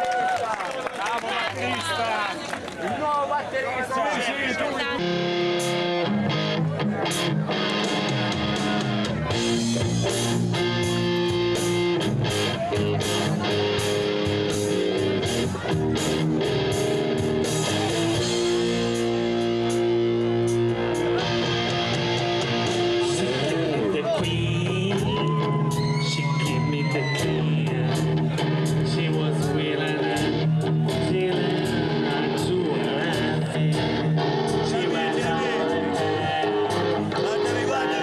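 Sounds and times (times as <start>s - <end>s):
live band playing: 4.6s - 38.0s.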